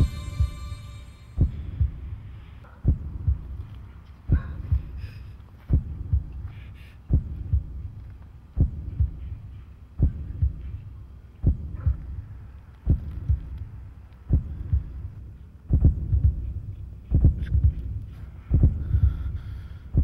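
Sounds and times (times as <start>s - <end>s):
low rumble: 0.0s - 20.0s
slow heartbeat: 0.0s - 20.0s.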